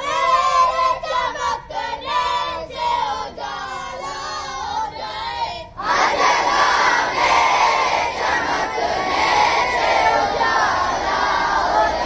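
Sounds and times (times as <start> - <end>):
children chanting a singsong prayer: 0.0 - 12.0.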